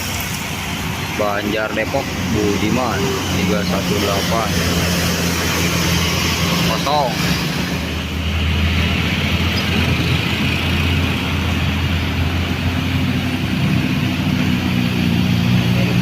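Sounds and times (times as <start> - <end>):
bus diesel engine passing: 0.0 - 16.0.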